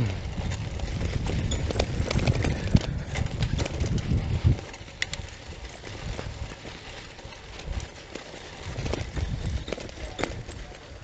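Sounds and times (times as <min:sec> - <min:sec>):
bicycle rattling over dirt road: 0:00.0 - 0:11.0.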